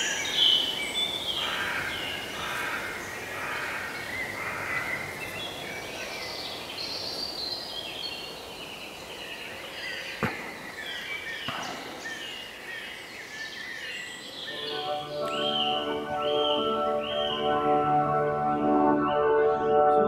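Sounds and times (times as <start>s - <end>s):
birds chirping and singing: 0.0s - 19.9s.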